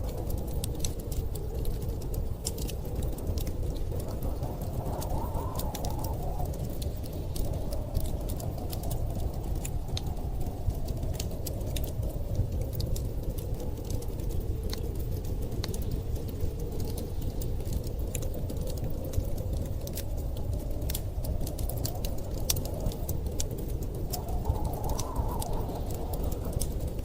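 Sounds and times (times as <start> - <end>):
fire rumbling: 0.0 - 27.0
howling blizzard wind: 0.0 - 27.0
wood fire crackling and popping: 0.0 - 27.0.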